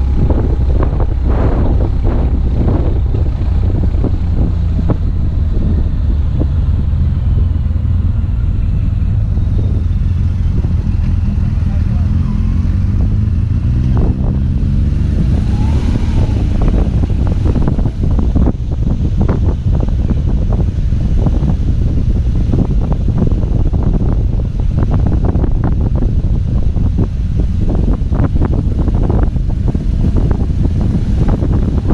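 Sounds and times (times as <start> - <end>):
motorcycle engine running: 0.0 - 31.9
wind rumble on microphone: 0.0 - 31.9.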